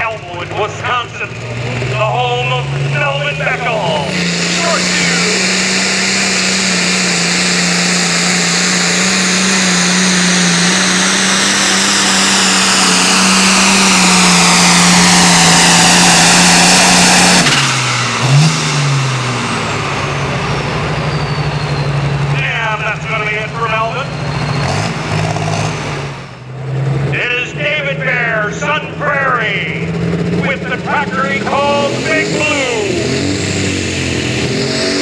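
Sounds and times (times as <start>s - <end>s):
tractor engine at full throttle: 0.0s - 35.0s
high whine: 2.0s - 26.4s, 27.1s - 35.0s.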